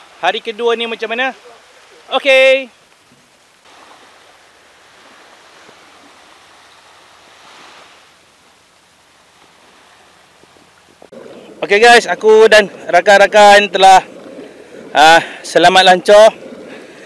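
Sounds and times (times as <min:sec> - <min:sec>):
small waves washing on beach: 0:00.0 - 0:17.0.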